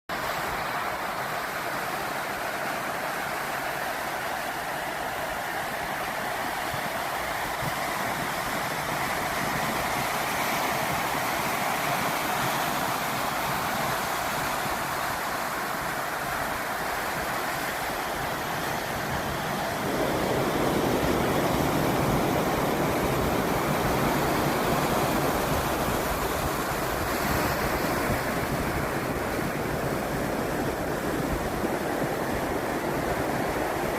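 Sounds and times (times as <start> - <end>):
ocean waves washing onto beach: 0.1 - 33.9.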